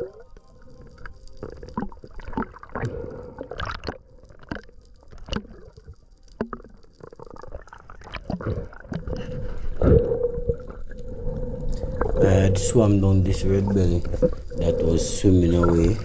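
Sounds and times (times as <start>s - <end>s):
water gurgling and sloshing: 0.0s - 16.0s.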